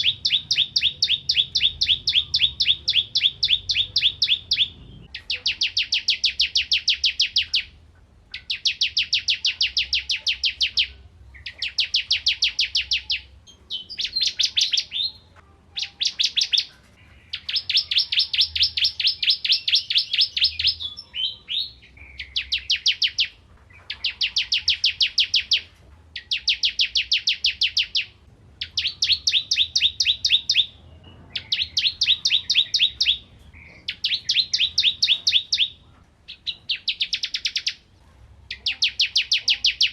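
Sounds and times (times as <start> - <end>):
bird singing rapid high notes: 0.0 - 37.9.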